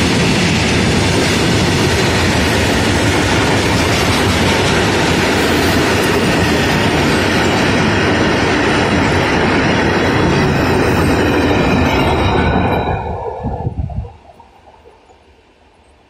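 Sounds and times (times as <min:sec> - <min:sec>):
freight train wheels on track: 0:00.0 - 0:14.0.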